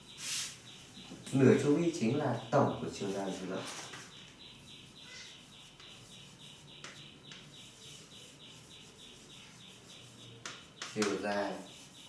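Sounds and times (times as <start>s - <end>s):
bird chirping faintly: 0.0s - 12.0s.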